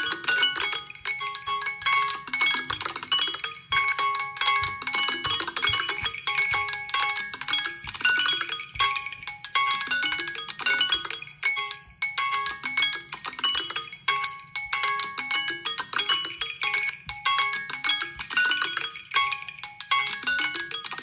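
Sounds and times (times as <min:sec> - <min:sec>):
phone alarm melody: 0:00.0 - 0:18.7.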